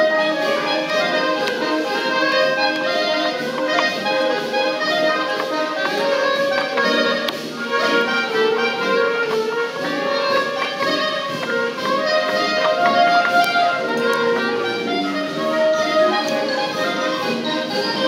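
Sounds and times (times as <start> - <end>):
concert band playing: 0.0 - 18.0.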